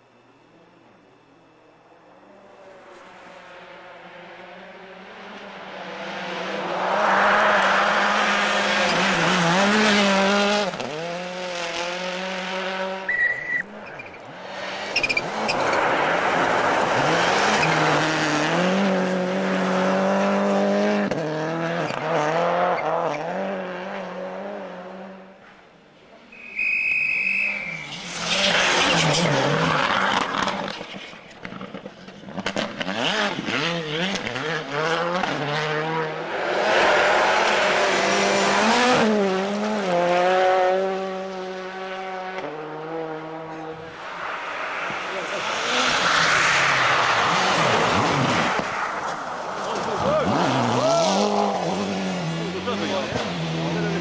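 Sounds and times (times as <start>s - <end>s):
rally car engines revving: 1.5s - 25.7s, 27.0s - 54.0s.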